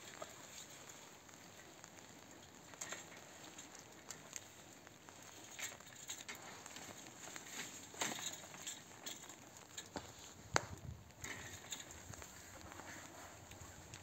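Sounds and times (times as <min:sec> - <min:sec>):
rustling of woody canes: 0:00.0 - 0:14.0.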